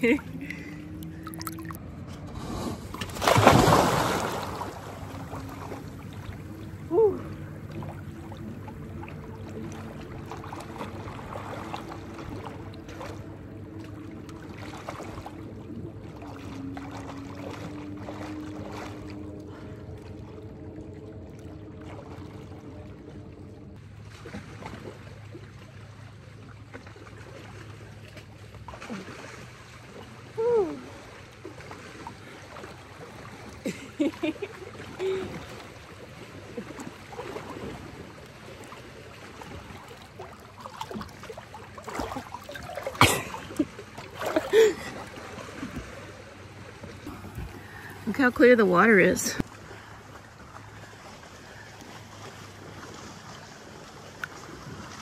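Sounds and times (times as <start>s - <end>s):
low engine-like hum: 0.0s - 55.0s
water lapping and splashing: 0.0s - 55.0s.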